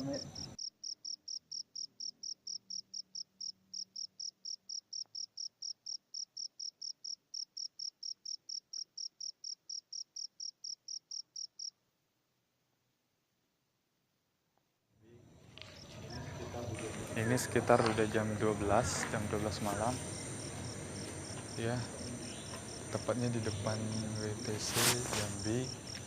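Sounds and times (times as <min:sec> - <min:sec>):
cricket chirping: 0:00.0 - 0:11.8, 0:15.1 - 0:26.0.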